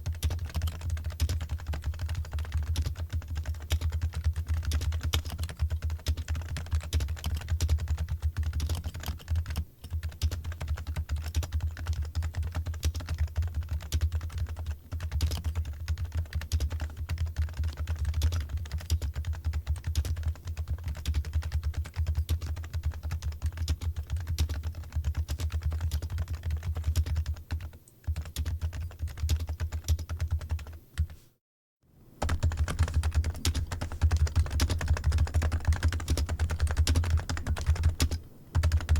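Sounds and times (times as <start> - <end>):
fast keyboard typing: 0.0 - 31.2, 32.2 - 38.9.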